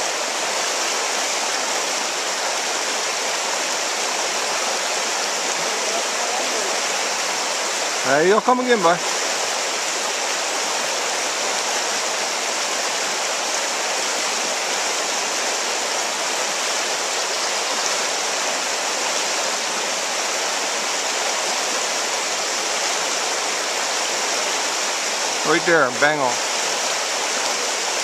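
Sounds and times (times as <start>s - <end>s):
river rapids rushing over rocks: 0.0s - 28.0s.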